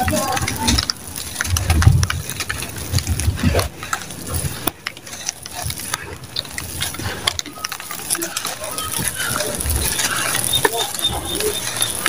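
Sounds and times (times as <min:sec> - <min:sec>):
crumbling cement crunching: 0:00.0 - 0:12.0.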